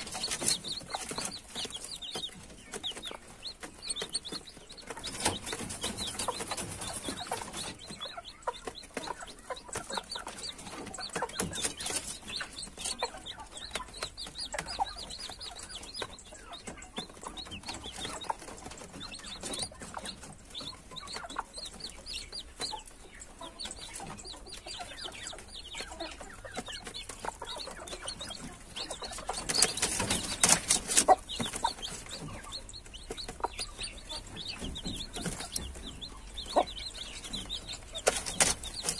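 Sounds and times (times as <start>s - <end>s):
beaks pecking on plastic tray: 0.0s - 38.9s
chicks peeping: 0.0s - 38.9s.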